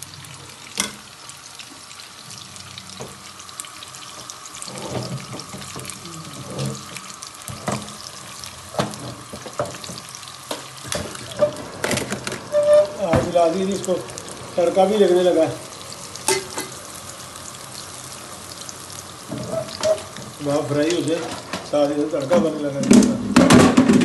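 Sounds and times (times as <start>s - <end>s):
crackles and pops of frying: 0.0s - 24.0s
meat sizzling in a pan: 0.0s - 24.0s.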